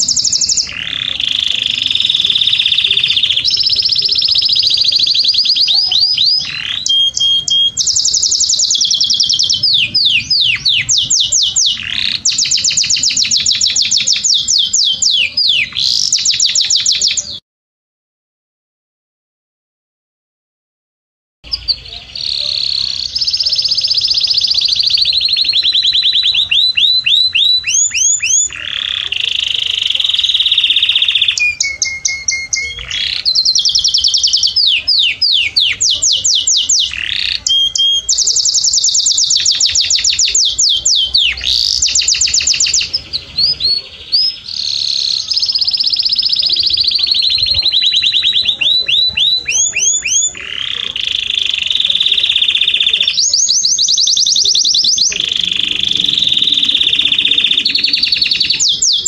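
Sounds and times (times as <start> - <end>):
canary singing trills: 0.0 - 17.4, 21.4 - 59.0.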